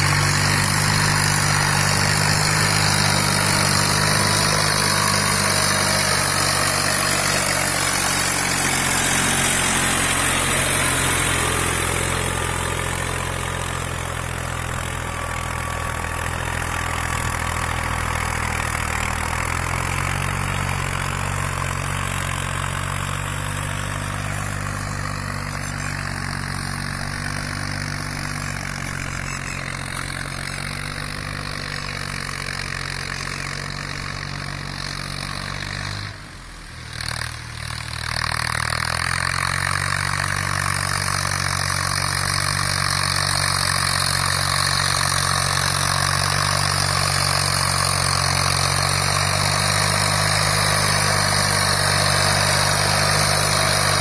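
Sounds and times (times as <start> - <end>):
tractor engines running under load: 0.0 - 54.0.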